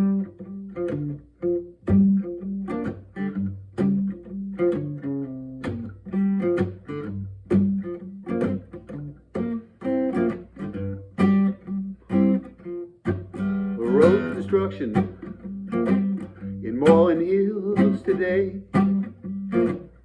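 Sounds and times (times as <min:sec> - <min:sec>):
guitar playing chords: 0:00.0 - 0:20.0.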